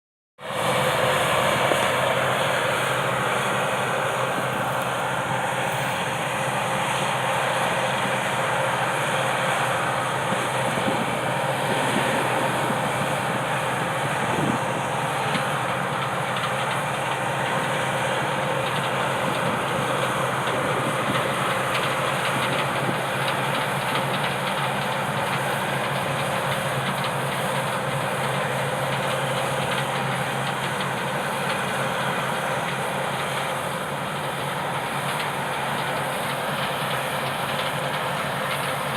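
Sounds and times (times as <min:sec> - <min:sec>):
combine harvester running: 0:00.4 - 0:38.9.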